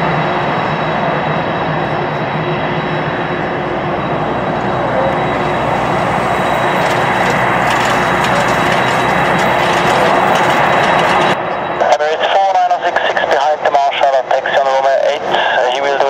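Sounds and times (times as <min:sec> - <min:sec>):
faint jet whine: 0:00.0 - 0:16.0
jet engines rushing: 0:00.0 - 0:16.0.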